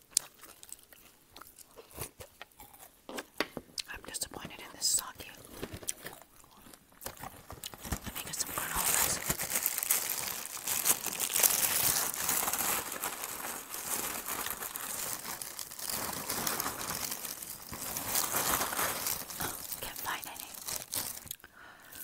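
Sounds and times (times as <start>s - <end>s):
chewing crunchy cereal: 0.0s - 3.9s, 5.8s - 21.4s.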